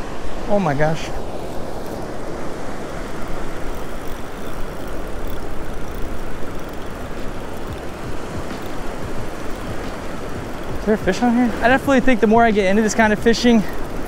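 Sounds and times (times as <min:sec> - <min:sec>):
breaking surf: 0:00.0 - 0:14.0.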